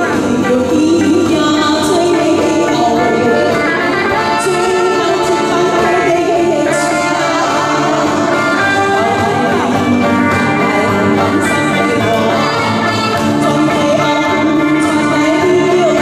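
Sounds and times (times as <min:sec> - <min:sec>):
live band playing: 0:00.0 - 0:16.0
woman singing into a microphone: 0:00.0 - 0:16.0.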